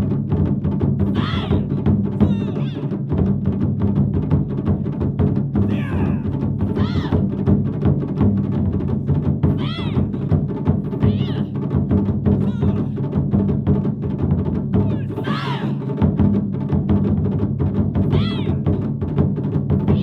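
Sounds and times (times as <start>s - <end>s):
taiko drum ensemble playing: 0.0s - 20.0s.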